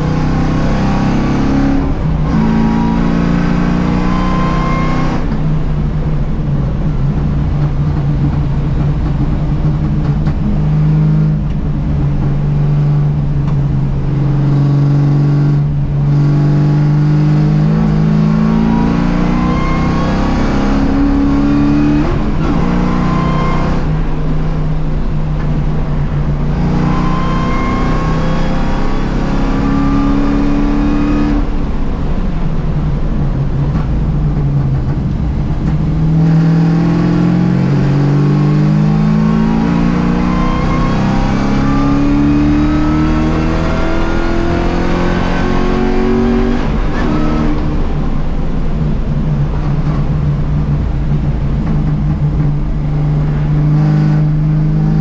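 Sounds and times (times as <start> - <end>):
race car engine accelerating: 0.0 - 55.0
road and wind noise: 0.0 - 55.0.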